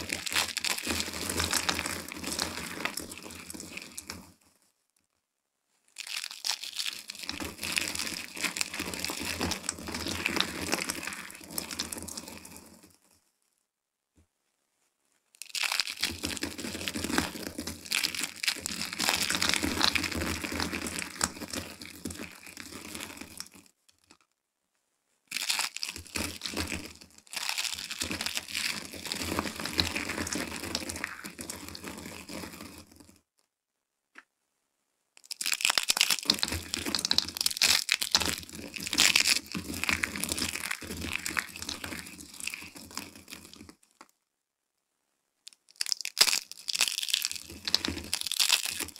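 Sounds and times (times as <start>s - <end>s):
dry soap crunching and crackling: 0.0s - 4.5s, 5.9s - 13.2s, 15.3s - 24.3s, 25.3s - 33.4s, 35.2s - 44.2s, 45.4s - 48.9s.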